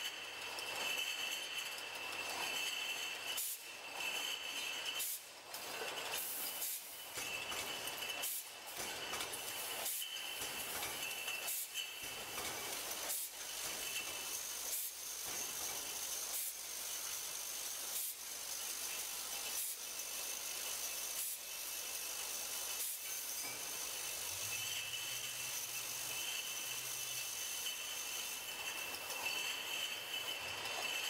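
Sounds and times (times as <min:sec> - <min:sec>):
bottling machine hissing: 0:00.0 - 0:31.0.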